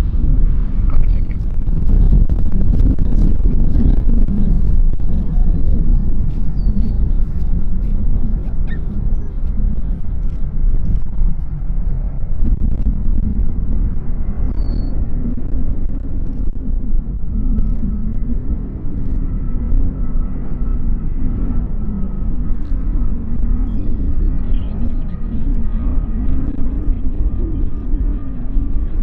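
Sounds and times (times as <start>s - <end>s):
faint steady engine tone: 0.0s - 29.0s
wind buffeting microphone: 0.0s - 29.0s.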